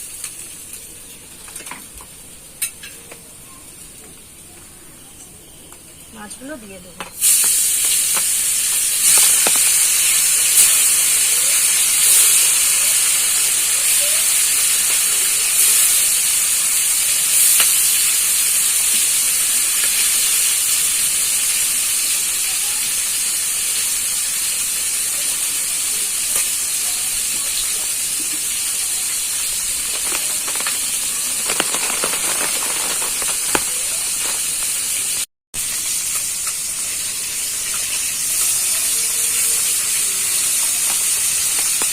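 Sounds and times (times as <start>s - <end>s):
fish sizzling in hot oil: 0.0s - 4.4s, 5.4s - 41.9s.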